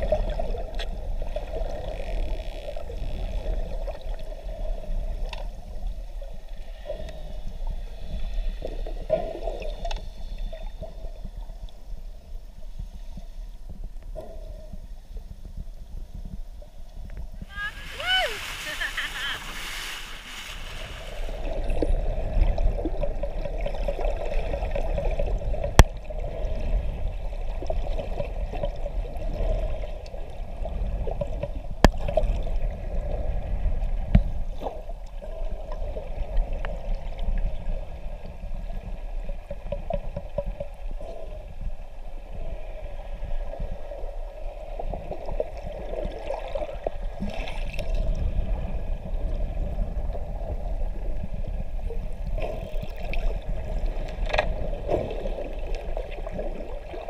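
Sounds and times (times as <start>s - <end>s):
muffled underwater rushing: 0.0s - 57.0s.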